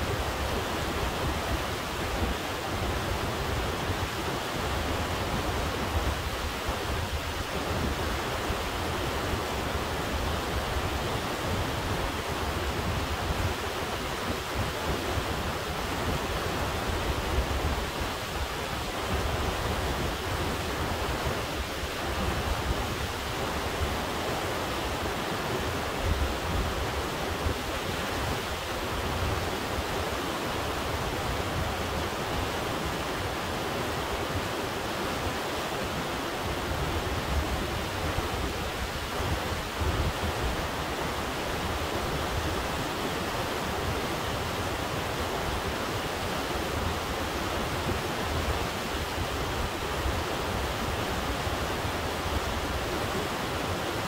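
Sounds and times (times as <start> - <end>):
river rushing through rapids: 0.0 - 54.0.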